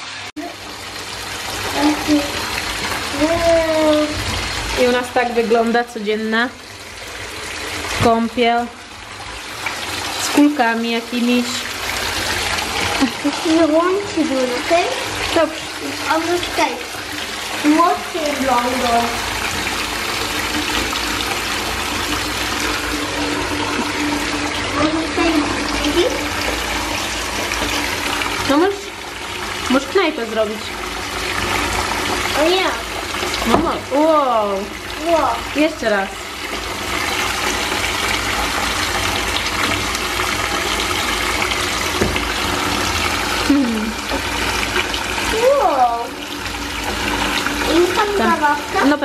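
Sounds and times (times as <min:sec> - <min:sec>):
water running into bathtub: 0:00.0 - 0:49.0.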